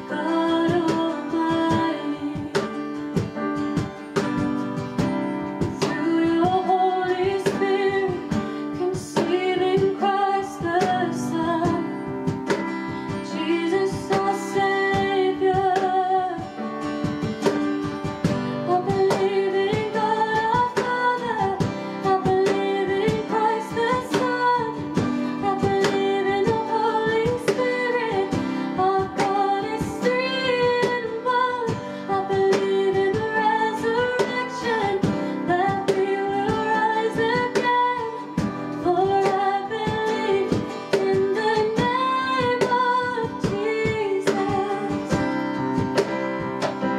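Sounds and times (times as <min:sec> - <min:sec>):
person singing: 0:00.0 - 0:03.0, 0:05.6 - 0:16.7, 0:18.5 - 0:46.9
strummed acoustic guitar: 0:00.0 - 0:46.9.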